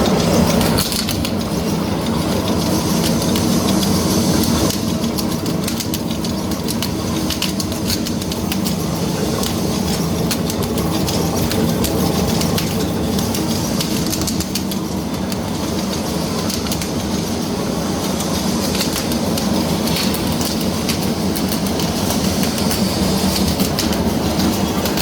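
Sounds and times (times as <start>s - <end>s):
welding machine humming: 0.0s - 25.0s.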